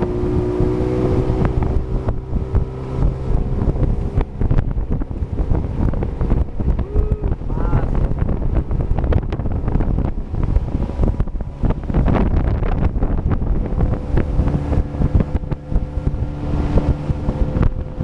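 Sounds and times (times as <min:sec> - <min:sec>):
motorboat engine: 0:00.0 - 0:18.0
rush of water: 0:00.0 - 0:18.0
wind buffeting microphone: 0:00.0 - 0:18.0.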